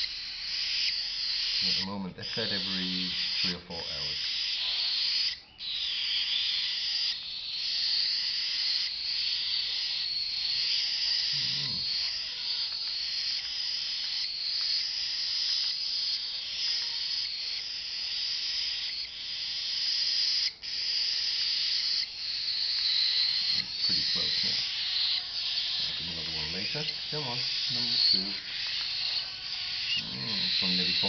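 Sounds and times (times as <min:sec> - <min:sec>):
chicks raspy begging calls: 0:00.0 - 0:31.0.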